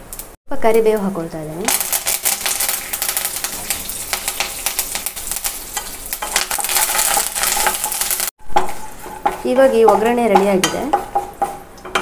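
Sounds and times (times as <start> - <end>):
hot oil sizzling and popping: 0.0 - 12.0
spatula stirring in pan: 2.0 - 12.0.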